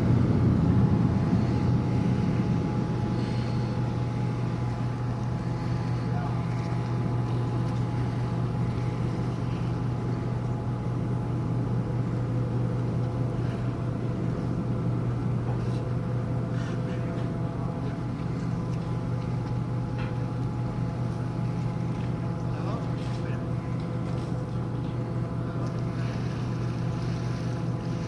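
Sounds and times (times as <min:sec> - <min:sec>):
ship machinery droning: 0:00.0 - 0:28.0.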